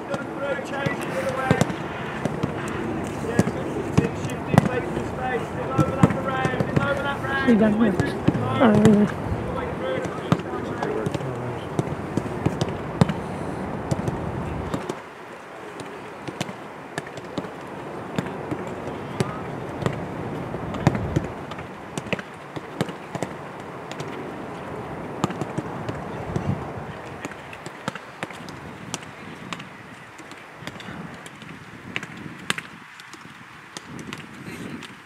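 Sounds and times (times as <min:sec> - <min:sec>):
players calling: 0:00.0 - 0:31.4.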